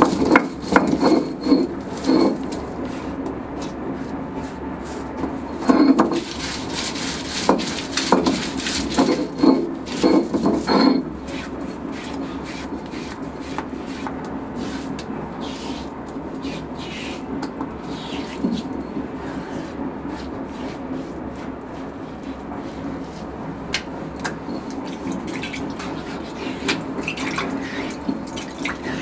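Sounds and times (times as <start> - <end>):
stone roller grinding on stone: 0.0 - 3.8, 4.4 - 23.4, 24.4 - 29.0
rubbing and scraping on stone: 0.0 - 23.4, 24.4 - 29.0.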